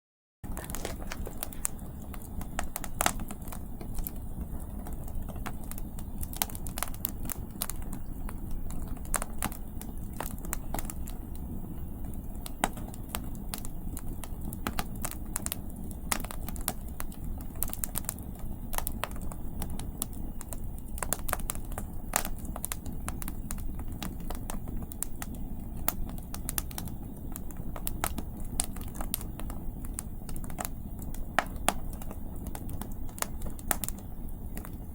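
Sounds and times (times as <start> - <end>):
campfire crackling and popping: 0.5 - 34.9
low rumble of wind: 0.5 - 34.9.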